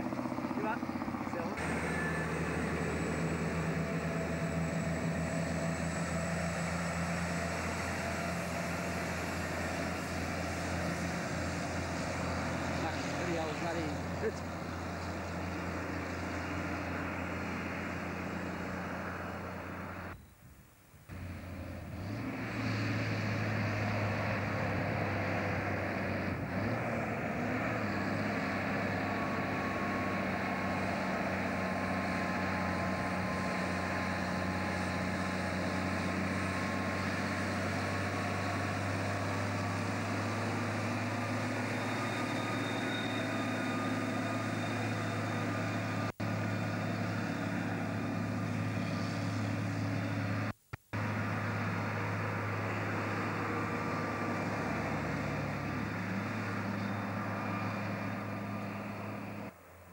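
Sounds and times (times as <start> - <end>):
truck diesel engine passing: 0.0 - 20.2, 21.1 - 59.9.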